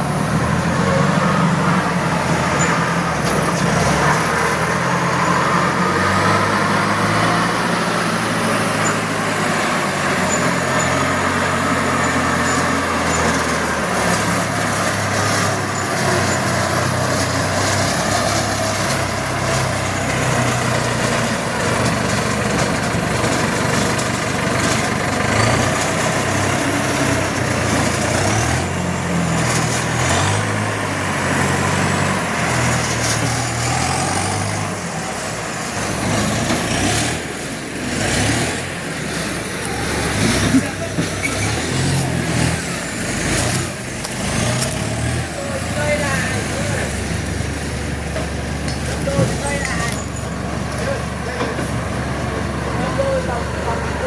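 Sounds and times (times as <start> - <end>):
heavy vehicle engine revving: 0.0 - 54.0.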